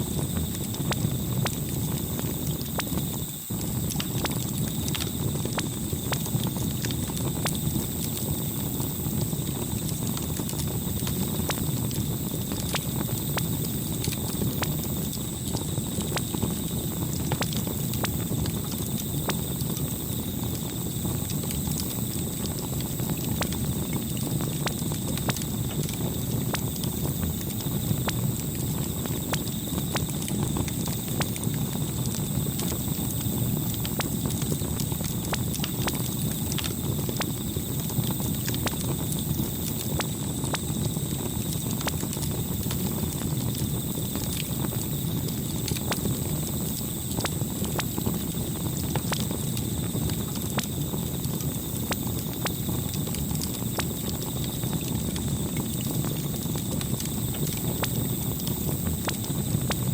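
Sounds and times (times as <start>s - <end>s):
burning wood crackling and popping: 0.0s - 59.9s
campfire flames rumbling: 0.0s - 59.9s.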